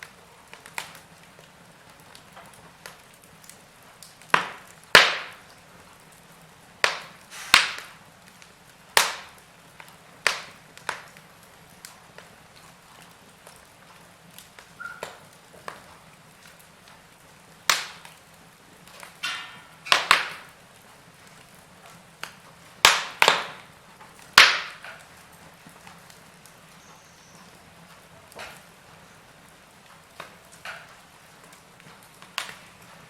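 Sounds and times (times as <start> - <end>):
loud fire pops: 0.0 - 27.6, 28.3 - 33.0
wood logs crackling in fireplace: 0.0 - 33.0.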